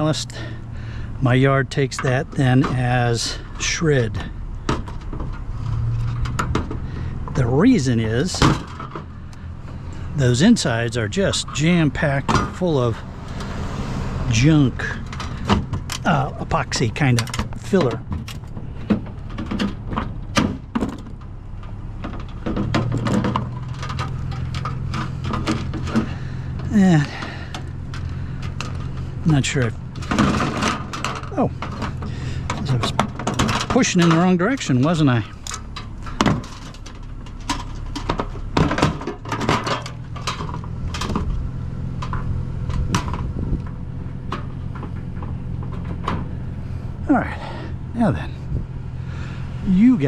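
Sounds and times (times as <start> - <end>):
scrap knocks and clunks: 0.0 - 50.0
steady low hum: 0.0 - 50.0
truck engine idling: 0.0 - 50.0.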